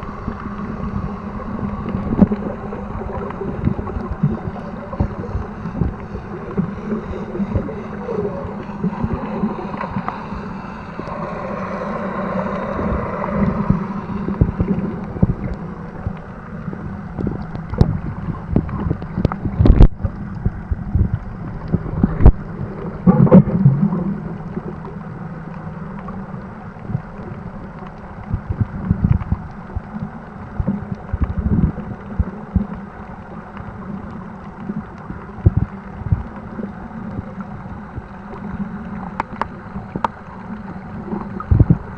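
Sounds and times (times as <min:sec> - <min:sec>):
faint hum: 0:00.0 - 0:41.9
underwater rumble of moving water: 0:00.0 - 0:41.9.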